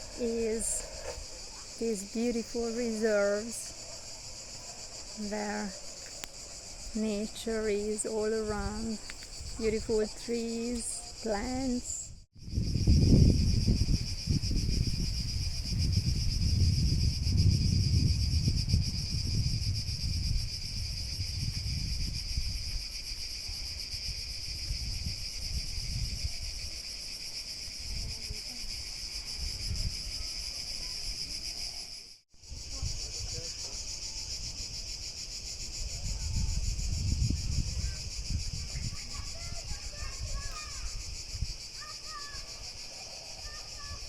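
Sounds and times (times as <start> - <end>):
wind rumble on microphone: 0.0 - 31.4, 32.4 - 42.7
insects chirring: 0.0 - 44.0.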